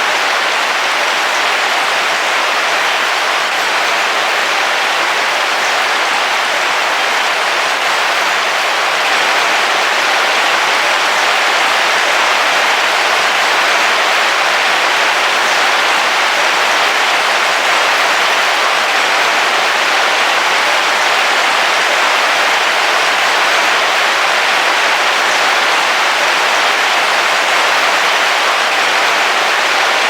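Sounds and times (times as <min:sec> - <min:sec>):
heavy rain on roof: 0:00.0 - 0:30.0.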